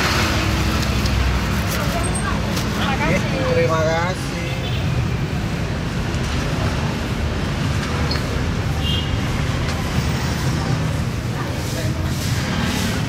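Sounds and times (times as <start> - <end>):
street and market ambience: 0.0 - 13.0.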